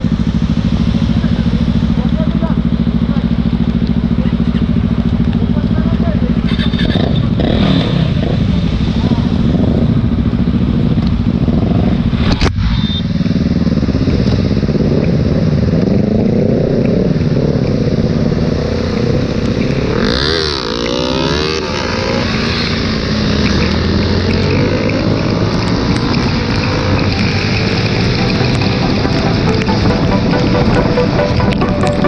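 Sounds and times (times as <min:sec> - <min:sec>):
motorcycle engine revving: 0:00.0 - 0:32.0
motorcycle passing by: 0:00.0 - 0:32.0.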